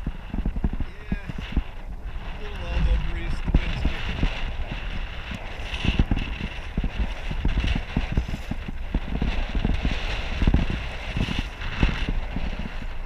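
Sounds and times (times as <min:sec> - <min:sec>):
low rumble of rapid thumps: 0:00.0 - 0:13.0
wind buffeting camera housing: 0:00.0 - 0:13.0.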